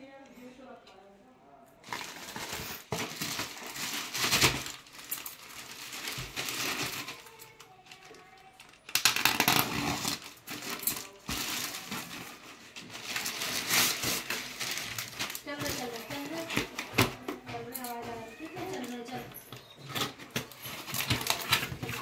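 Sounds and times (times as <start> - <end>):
plastic bag crinkling and rustling: 1.8 - 22.0.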